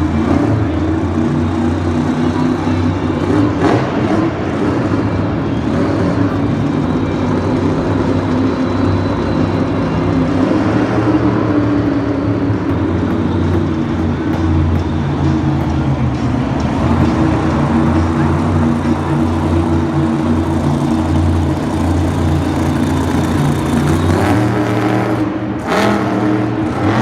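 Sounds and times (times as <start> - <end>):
large vehicle engine running: 0.0 - 27.0.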